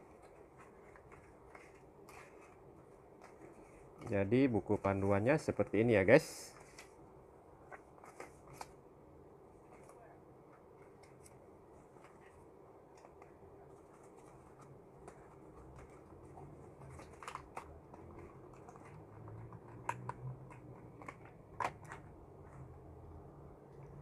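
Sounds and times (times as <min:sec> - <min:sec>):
paper and cardboard rustling: 0:00.0 - 0:07.0, 0:07.6 - 0:08.8, 0:10.8 - 0:22.7.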